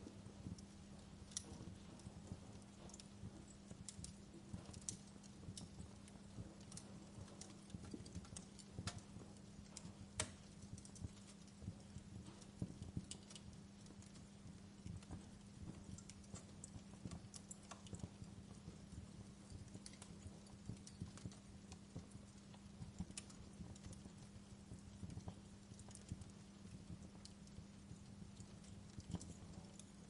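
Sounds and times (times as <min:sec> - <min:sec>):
low steady hum: 0:00.0 - 0:30.0
wood fire crackling and popping: 0:00.0 - 0:30.0.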